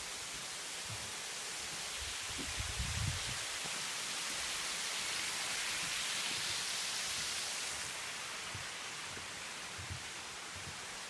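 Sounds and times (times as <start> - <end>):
water rushing over spillway: 0.0 - 11.0.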